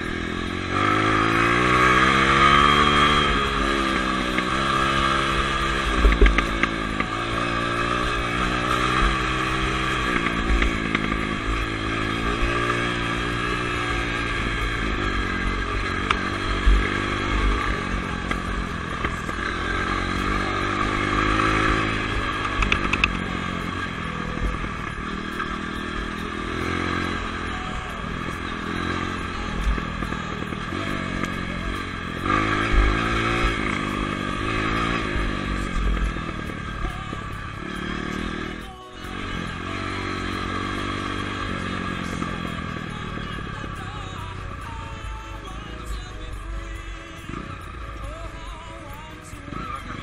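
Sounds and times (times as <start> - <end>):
dirt bike engine revving: 0.0 - 50.0.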